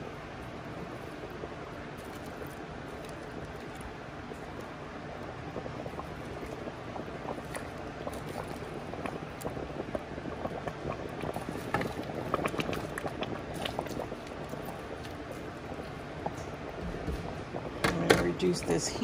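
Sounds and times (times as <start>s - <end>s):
liquid bubbling at a boil: 0.0s - 19.0s
pops and splashes in a pot: 1.3s - 18.8s.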